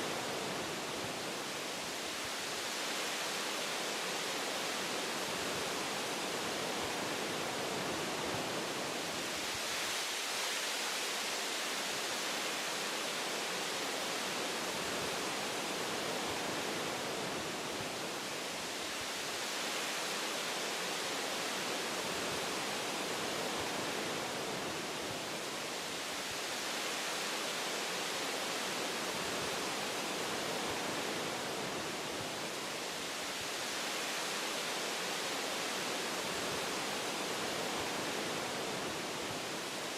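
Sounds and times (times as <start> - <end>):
wind through tree branches: 0.0 - 39.9.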